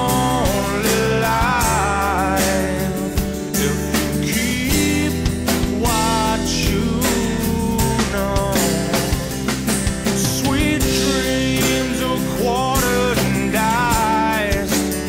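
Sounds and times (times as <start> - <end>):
song with singing guitar and drums: 0.0 - 15.0.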